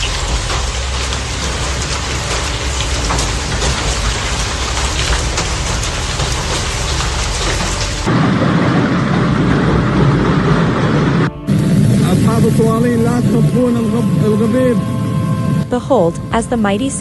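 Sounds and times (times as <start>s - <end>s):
heavy rain pouring: 0.0s - 17.0s
low rumble: 0.0s - 17.0s.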